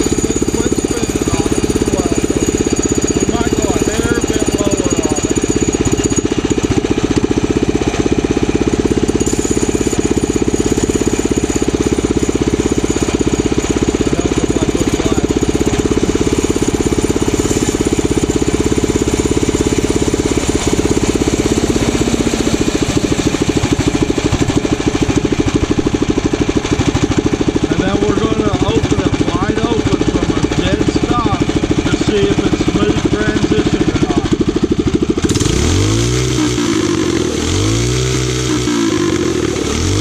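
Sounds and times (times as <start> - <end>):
engine running with rapid exhaust beat: 0.0 - 40.0.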